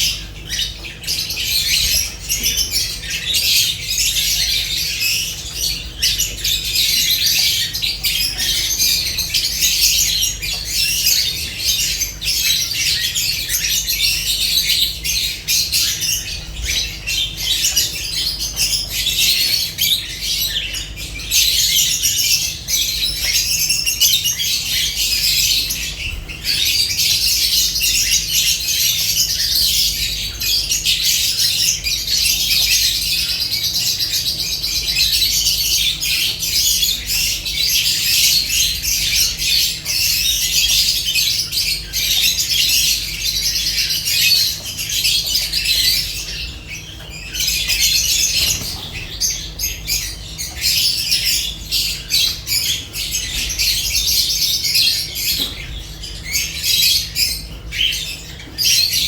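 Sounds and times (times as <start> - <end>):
lovebirds chattering: 0.0 - 59.0.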